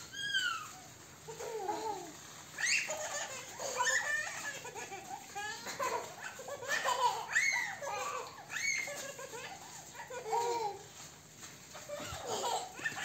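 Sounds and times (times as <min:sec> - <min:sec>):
children laughing and squealing: 0:00.0 - 0:11.1, 0:11.7 - 0:13.0.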